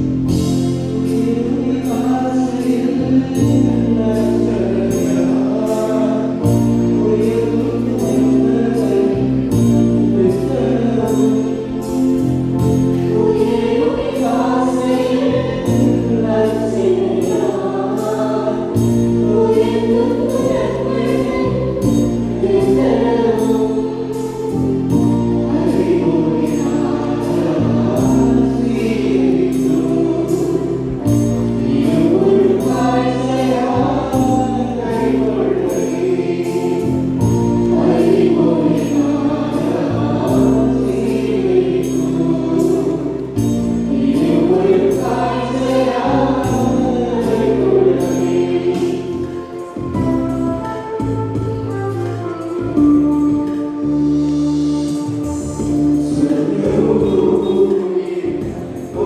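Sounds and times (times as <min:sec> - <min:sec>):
choir singing: 0:00.0 - 0:59.0
held instrumental chords: 0:00.0 - 0:59.0.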